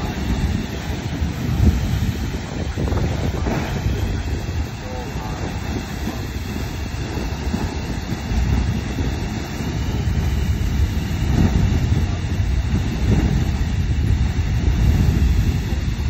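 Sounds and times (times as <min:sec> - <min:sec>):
geyser water rushing and hissing: 0:00.0 - 0:16.0.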